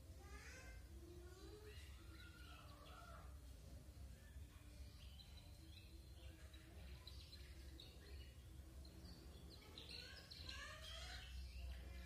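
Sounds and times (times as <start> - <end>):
canary chirping: 0.2 - 12.0.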